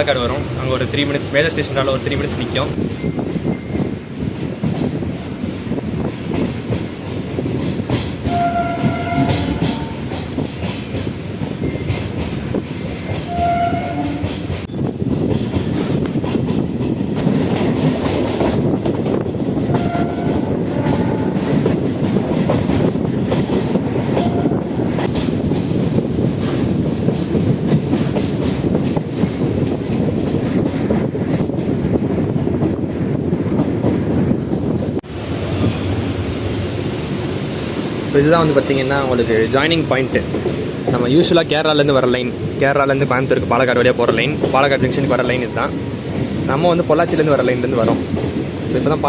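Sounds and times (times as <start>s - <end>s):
train rumbling: 0.0s - 49.0s.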